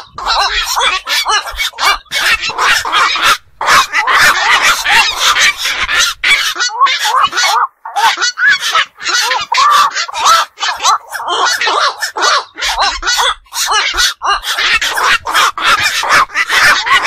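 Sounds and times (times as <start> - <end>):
herons calling: 0.0 - 17.0.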